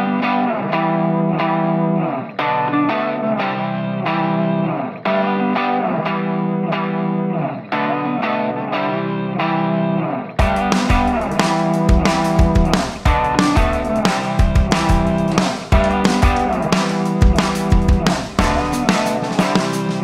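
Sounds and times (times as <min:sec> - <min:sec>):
electric guitar music: 0:00.0 - 0:20.0.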